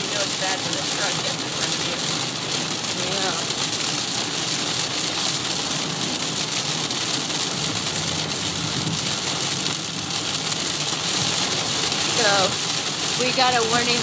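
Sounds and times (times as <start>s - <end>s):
car road noise on wet road: 0.0s - 14.0s
heavy rain on car roof: 0.0s - 14.0s.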